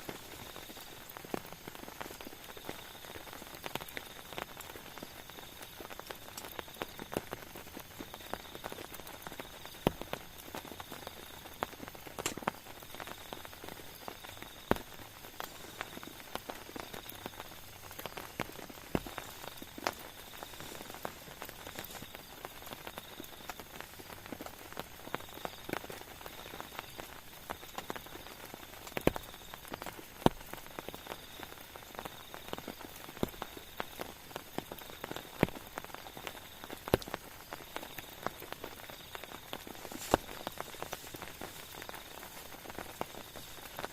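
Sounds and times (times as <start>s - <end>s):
rain falling: 0.0s - 43.9s
raindrops tapping a surface: 0.0s - 43.9s.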